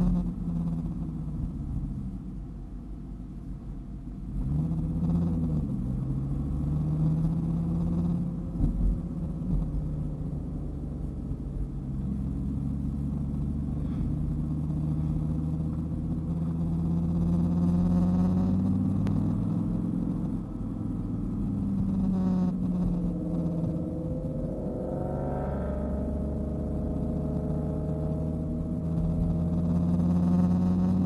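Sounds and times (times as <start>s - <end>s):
car engine revving while driving: 0.0s - 2.3s, 4.2s - 31.0s.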